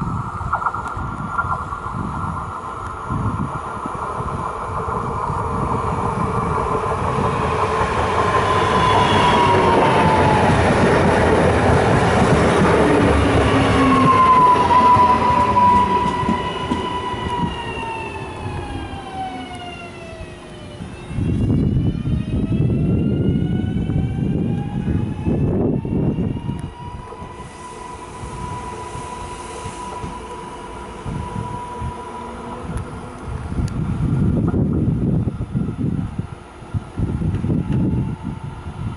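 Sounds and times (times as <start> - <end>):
train wheels rushing on rails: 0.0 - 38.9.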